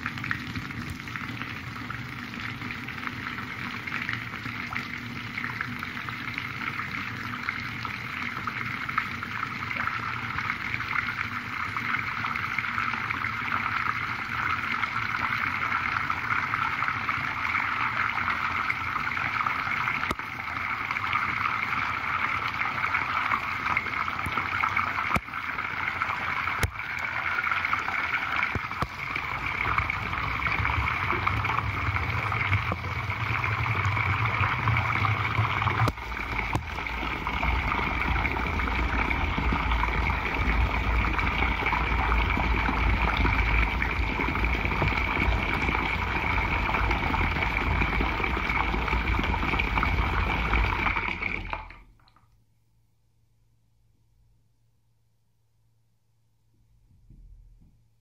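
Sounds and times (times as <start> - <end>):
water draining down plughole: 0.0 - 52.2.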